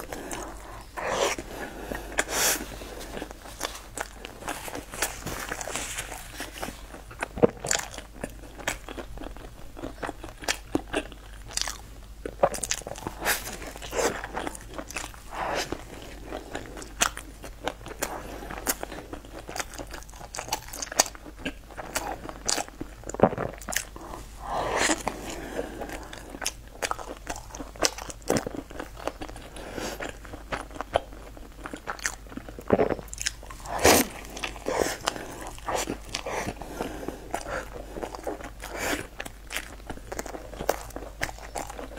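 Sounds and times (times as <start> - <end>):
chewing crusty bread: 0.0 - 41.9.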